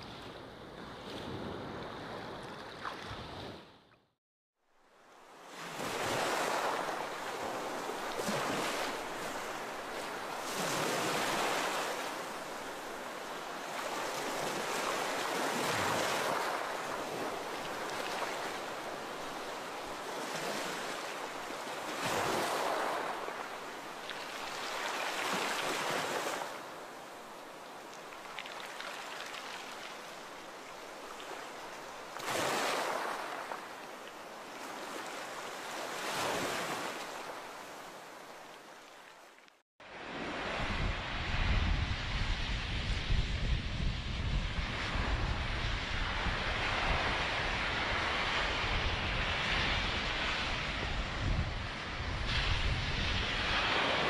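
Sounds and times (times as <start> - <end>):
sea waves breaking ashore: 0.0 - 3.9, 5.0 - 54.0.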